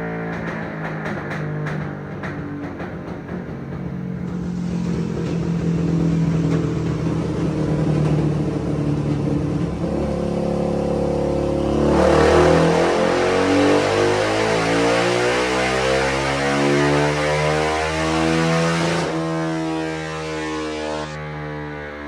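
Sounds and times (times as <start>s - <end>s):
single-cylinder engine revving: 0.0s - 22.0s.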